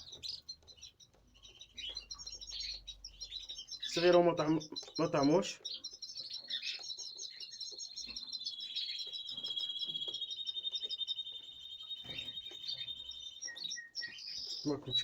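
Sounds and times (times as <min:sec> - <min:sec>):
nestlings chirping: 0:00.0 - 0:15.0.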